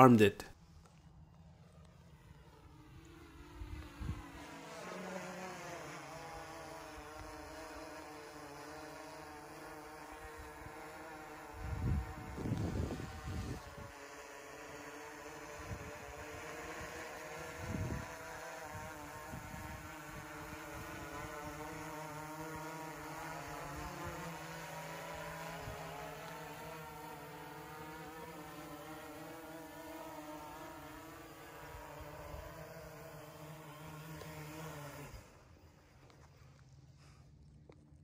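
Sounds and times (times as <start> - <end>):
drone propellers buzzing: 0.0 - 36.3.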